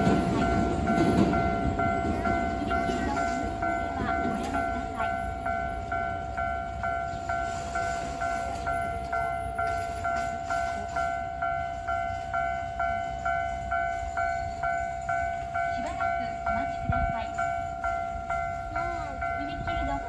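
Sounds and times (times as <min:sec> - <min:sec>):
level-crossing warning bell: 0:00.0 - 0:20.0.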